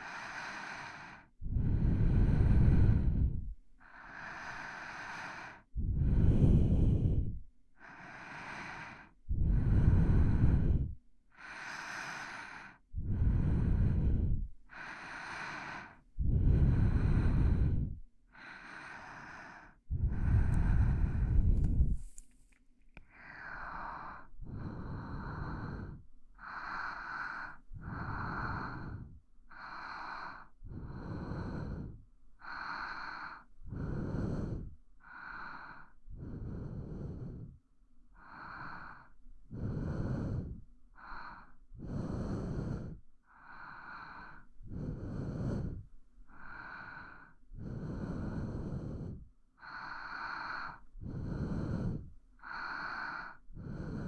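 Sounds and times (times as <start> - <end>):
person breathing slowly: 0.0 - 54.0.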